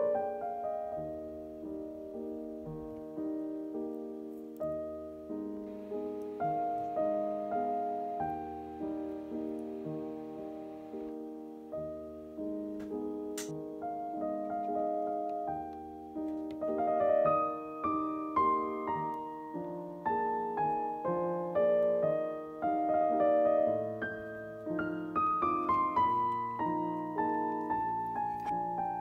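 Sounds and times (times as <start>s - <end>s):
calm piano melody: 0.0s - 29.0s.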